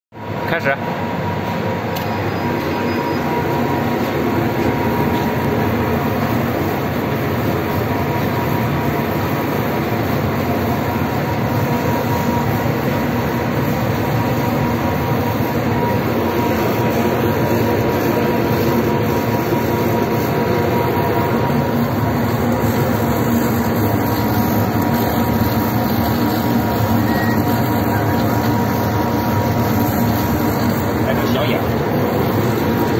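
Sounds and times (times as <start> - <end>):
faint constant whine: 0.2 - 32.9
laser cutting machine running: 0.2 - 32.9.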